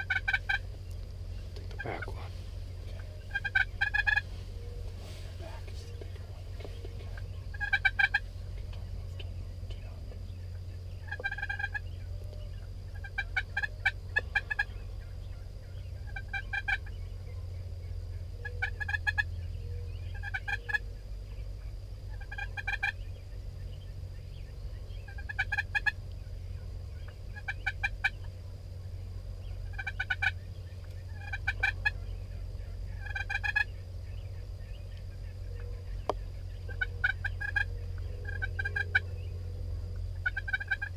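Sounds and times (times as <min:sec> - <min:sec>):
turkeys gobbling: 0:00.0 - 0:17.3, 0:18.4 - 0:23.1, 0:24.4 - 0:40.9.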